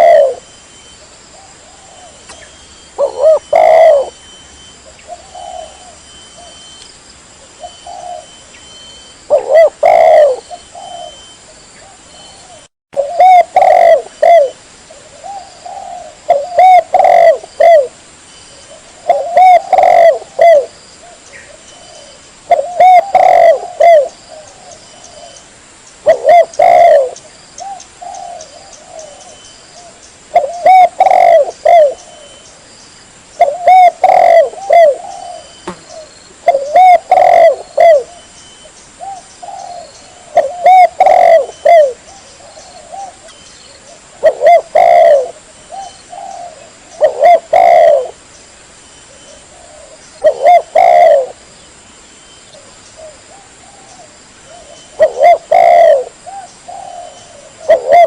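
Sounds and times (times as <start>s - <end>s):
dove cooing: 0.0s - 0.5s, 1.4s - 6.8s, 7.4s - 18.0s, 18.6s - 25.4s, 26.0s - 32.4s, 33.4s - 38.3s, 39.0s - 48.2s, 49.1s - 51.4s, 52.5s - 58.0s.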